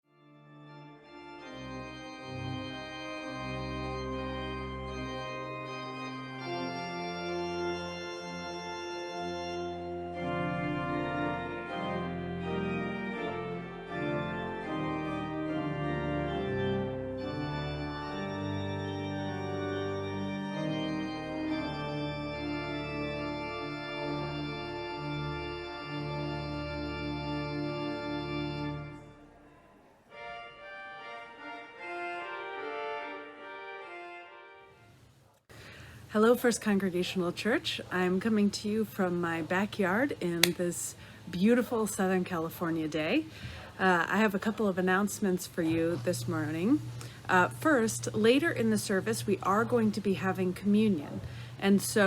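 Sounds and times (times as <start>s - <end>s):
organ chords: 0.0s - 35.0s, 44.6s - 52.0s.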